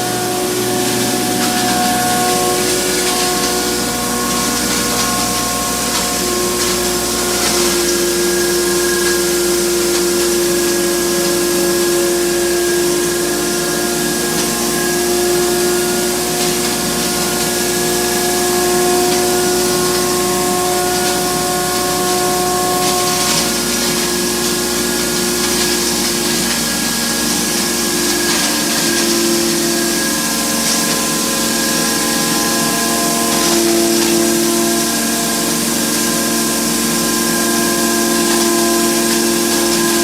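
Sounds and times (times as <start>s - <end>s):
grinding machine humming and hissing: 0.0s - 40.0s.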